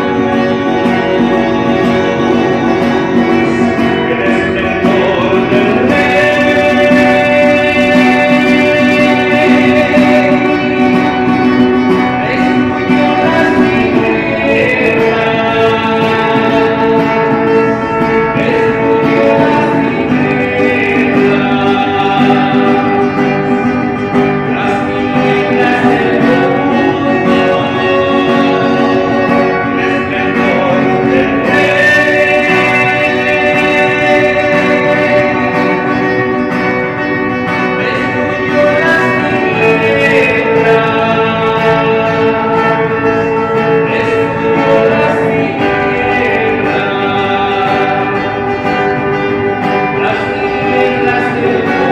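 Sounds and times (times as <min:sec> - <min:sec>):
guitar music: 0:00.0 - 0:51.9.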